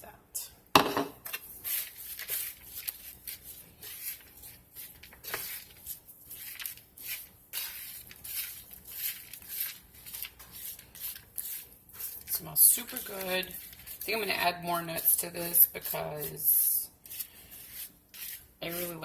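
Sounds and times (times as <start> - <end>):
oats stirred in a mixing bowl: 1.2 - 19.0.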